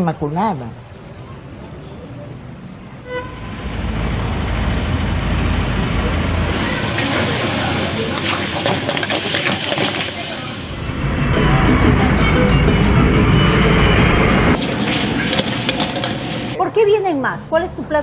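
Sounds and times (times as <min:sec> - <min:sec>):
car road and engine noise: 0:00.6 - 0:15.2.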